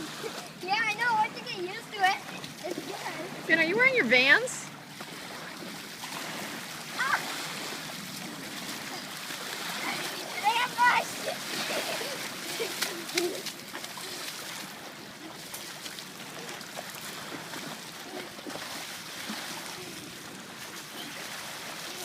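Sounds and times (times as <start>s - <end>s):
water splashing and lapping: 0.0s - 22.0s.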